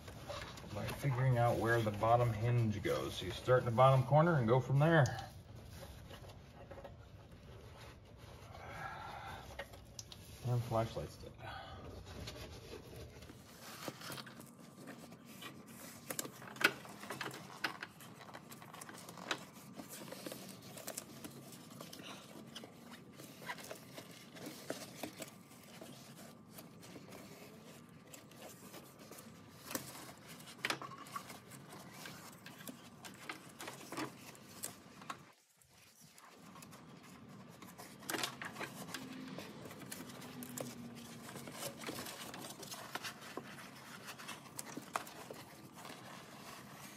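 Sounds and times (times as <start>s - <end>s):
foam pad rustling and scraping: 0.0s - 11.3s, 11.9s - 46.9s.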